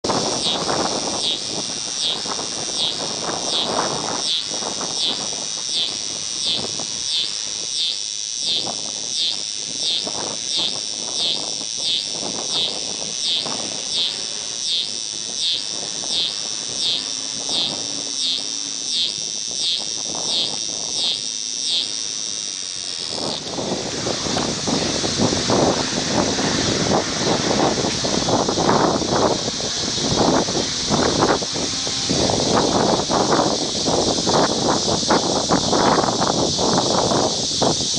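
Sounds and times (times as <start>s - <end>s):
cicada pulsing song: 0.0s - 37.9s
steady high hiss: 0.0s - 37.9s.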